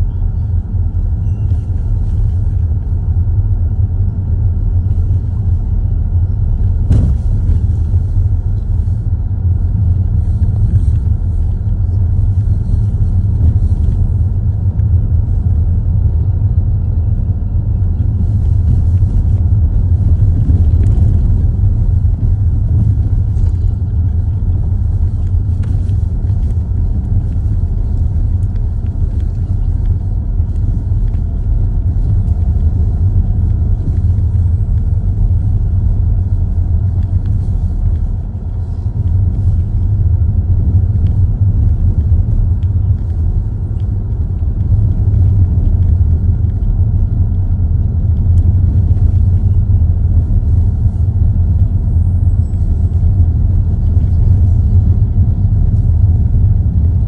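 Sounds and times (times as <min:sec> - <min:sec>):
car road rumble from inside: 0:00.0 - 0:57.0.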